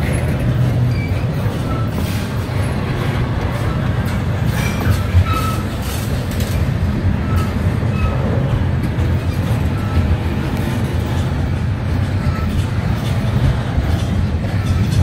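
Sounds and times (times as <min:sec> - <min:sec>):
freight train rumbling past: 0:00.0 - 0:15.0
steel wheels clattering on rail: 0:00.0 - 0:15.0.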